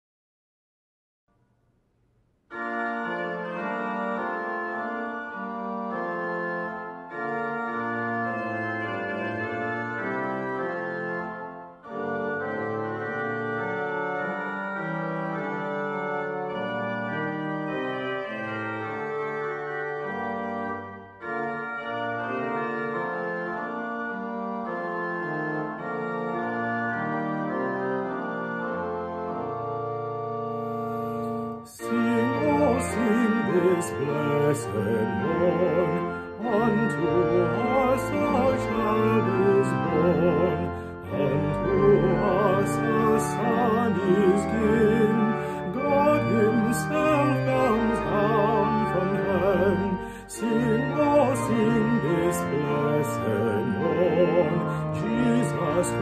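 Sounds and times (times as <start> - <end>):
organ playing chords: 2.5 - 56.0.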